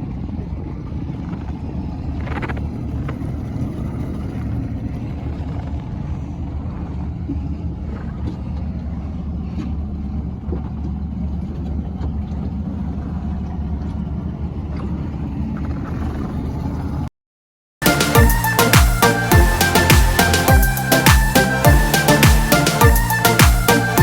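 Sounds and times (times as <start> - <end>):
boat engine rumbling: 0.0 - 17.1, 17.8 - 24.0.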